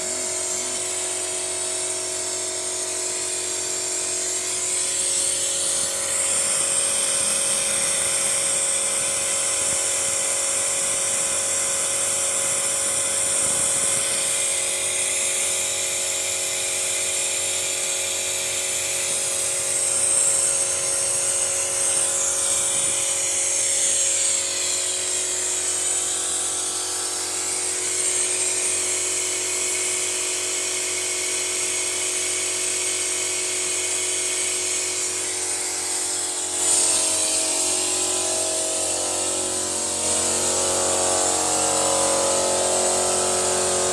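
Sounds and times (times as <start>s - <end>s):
engine mechanical whine: 0.0s - 27.9s, 35.0s - 43.9s.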